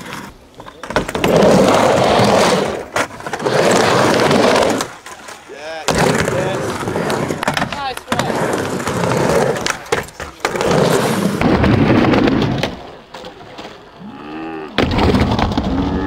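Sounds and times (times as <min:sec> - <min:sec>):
skateboard clacks: 0:00.0 - 0:13.9
skateboard wheels rolling on wooden ramp: 0:00.0 - 0:14.1, 0:14.8 - 0:16.0
skateboard landing impact: 0:00.2 - 0:13.9, 0:14.8 - 0:16.0.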